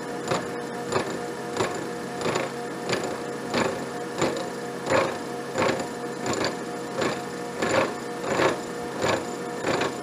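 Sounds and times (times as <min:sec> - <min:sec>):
milling machine whine: 0:00.0 - 0:10.0.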